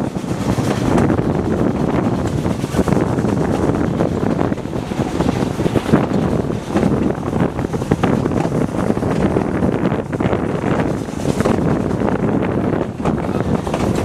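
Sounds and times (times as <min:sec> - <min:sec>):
train carriages rumbling on track: 0:00.0 - 0:14.0
wind buffeting microphone: 0:00.0 - 0:14.0.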